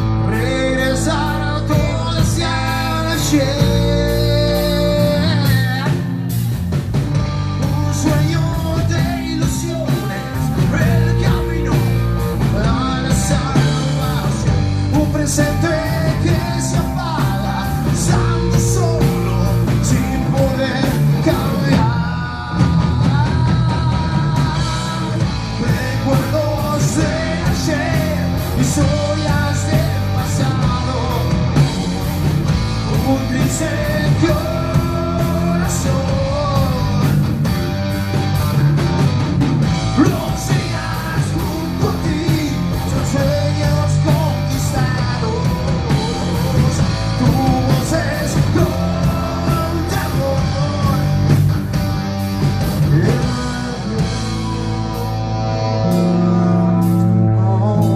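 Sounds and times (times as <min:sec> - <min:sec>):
bass guitar: 0:00.0 - 0:57.9
drums and cymbals: 0:00.0 - 0:57.9
electric guitar: 0:00.0 - 0:57.9
person singing: 0:00.2 - 0:06.7, 0:07.6 - 0:37.4, 0:39.8 - 0:51.6, 0:52.8 - 0:57.9.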